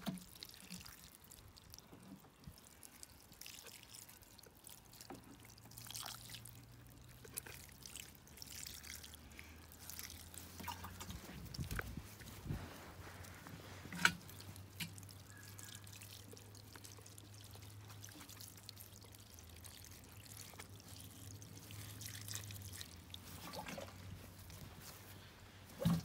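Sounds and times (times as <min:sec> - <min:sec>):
water pouring from watering can: 0:00.0 - 0:26.0.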